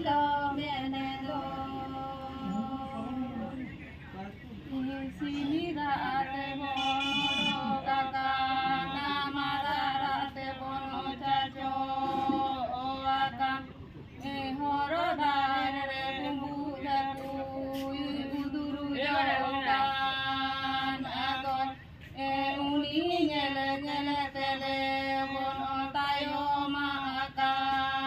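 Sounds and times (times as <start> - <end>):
women singing: 0.0 - 3.9, 4.7 - 28.0.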